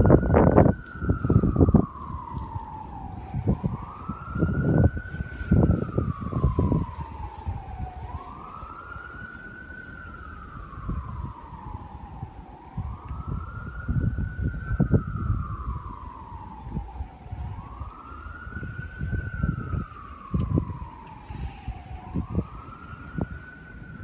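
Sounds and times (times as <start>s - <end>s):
emergency vehicle siren wailing: 0.0s - 24.0s
low rumbling noise: 0.0s - 24.0s.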